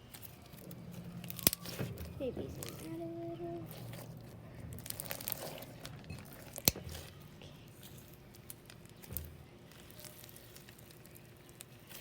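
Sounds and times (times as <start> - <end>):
packing peanuts crackling: 0.0 - 12.0.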